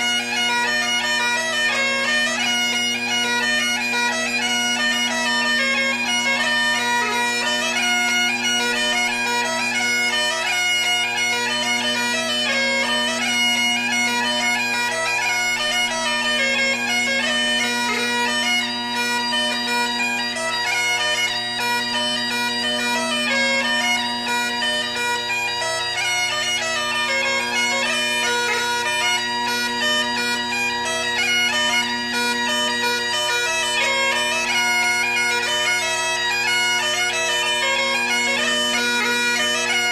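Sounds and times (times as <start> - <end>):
bagpipe music: 0.0 - 39.9.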